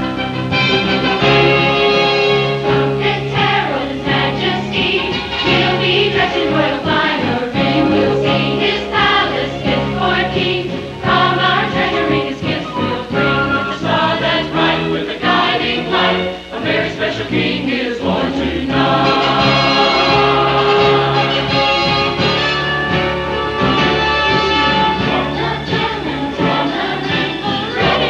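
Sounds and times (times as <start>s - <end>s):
church choir singing: 0.8s - 28.0s.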